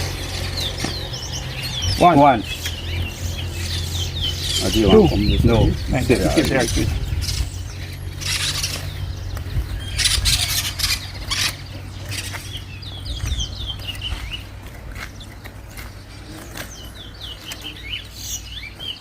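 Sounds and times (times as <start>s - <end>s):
finch singing high chirps: 0.0s - 19.0s.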